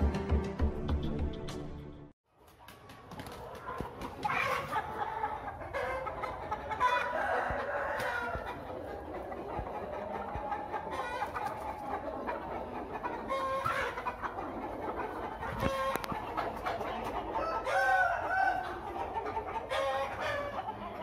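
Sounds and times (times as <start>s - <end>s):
chickens clucking: 2.3s - 21.0s.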